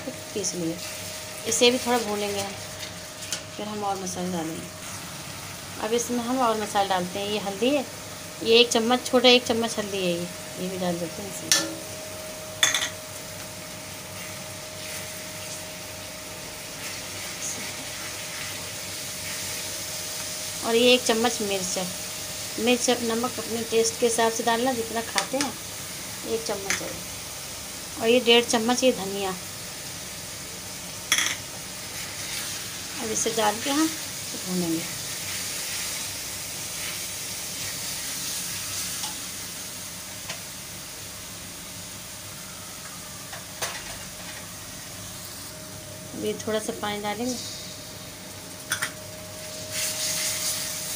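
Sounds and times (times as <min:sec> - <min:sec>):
spices sizzling in a pan: 0:00.0 - 0:50.9.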